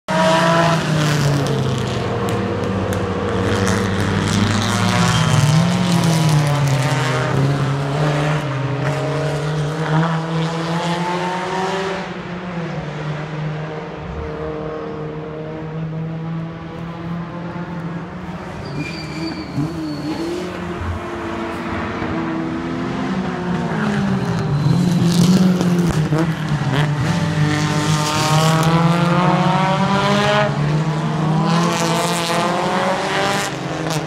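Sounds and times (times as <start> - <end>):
race car engines revving: 0.1 - 34.0.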